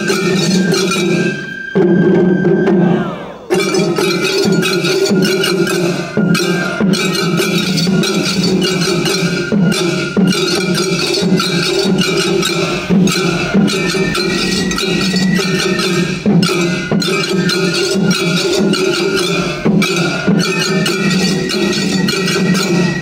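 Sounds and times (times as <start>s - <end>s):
hand gongs clanging: 0.0s - 1.4s, 3.5s - 23.0s
taiko drums beating: 0.0s - 23.0s.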